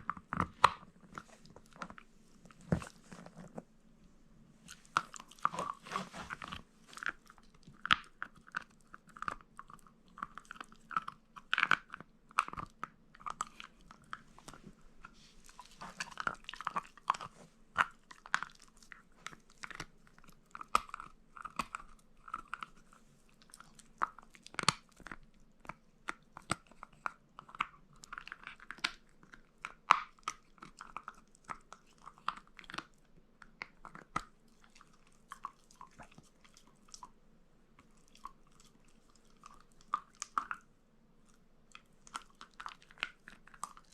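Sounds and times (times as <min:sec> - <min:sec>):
dog chewing and crunching meat: 0:00.0 - 0:03.8, 0:04.6 - 0:37.2, 0:37.8 - 0:43.9.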